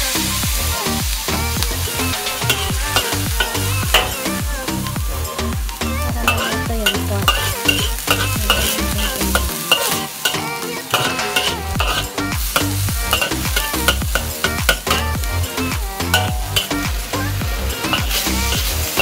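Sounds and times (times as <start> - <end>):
background music with bass beat: 0.0 - 19.0
meat sizzling: 0.0 - 19.0
metal spatula scraping wok: 1.3 - 5.5, 6.2 - 19.0.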